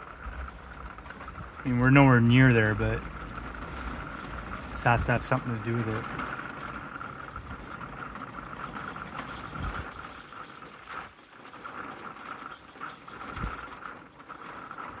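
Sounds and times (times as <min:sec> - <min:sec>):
rain falling on vehicle roof: 0:00.0 - 0:15.0.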